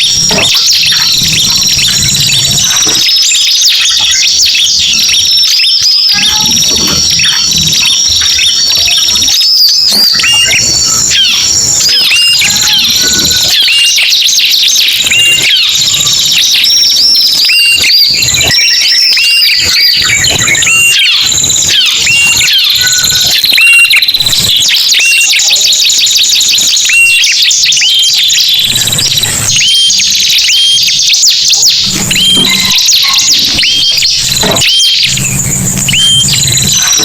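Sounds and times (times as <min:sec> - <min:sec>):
birds chirping and trilling: 0:00.0 - 0:37.0.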